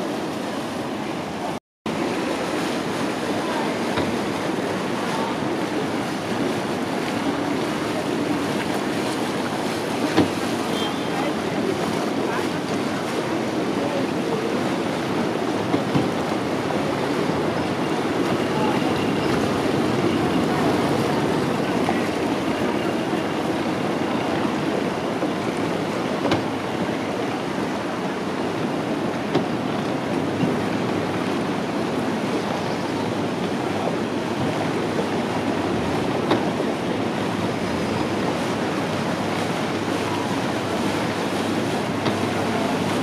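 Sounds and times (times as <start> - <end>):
motorboat engines and churned water: 0.0 - 43.0.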